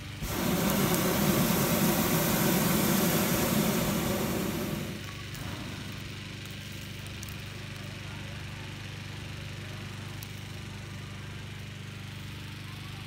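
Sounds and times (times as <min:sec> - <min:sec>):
propane burner blast: 0:00.0 - 0:12.6
small engine running: 0:00.0 - 0:13.0.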